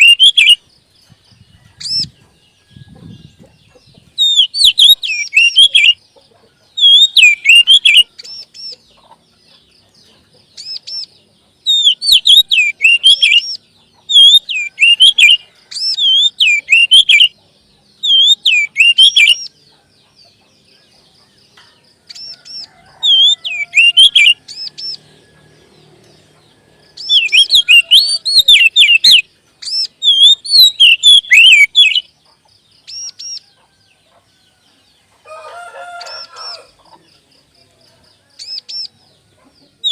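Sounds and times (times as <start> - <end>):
songbird singing chirps: 0.0 - 39.9.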